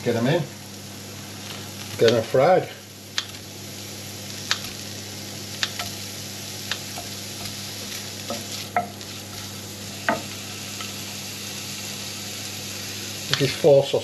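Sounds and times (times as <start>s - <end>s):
sausage sizzling in oil: 0.0s - 14.0s.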